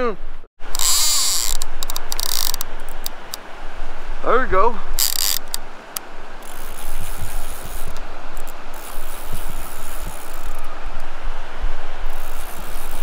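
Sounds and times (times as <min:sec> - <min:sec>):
wind rushing over microphone: 0:00.0 - 0:13.0
surf washing: 0:00.8 - 0:13.0.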